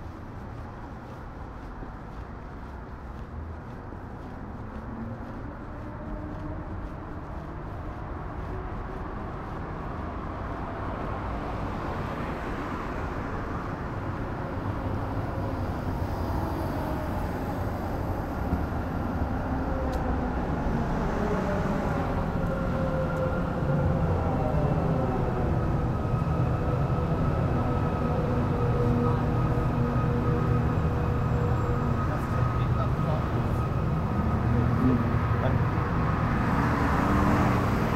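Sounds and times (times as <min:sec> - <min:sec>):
large vehicle rumbling: 0:00.0 - 0:37.9.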